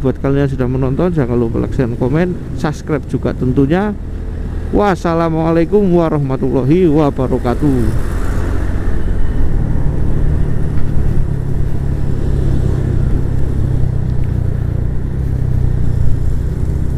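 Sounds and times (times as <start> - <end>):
scooter engine humming: 0.0 - 16.9
wind and road noise: 0.0 - 16.9.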